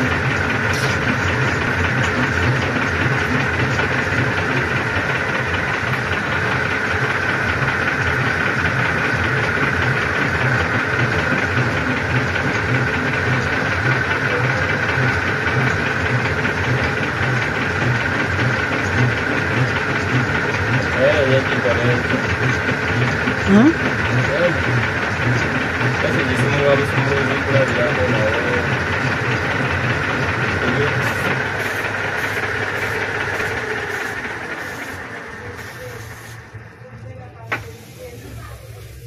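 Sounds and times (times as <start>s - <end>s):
metal lathe running: 0.0s - 39.0s.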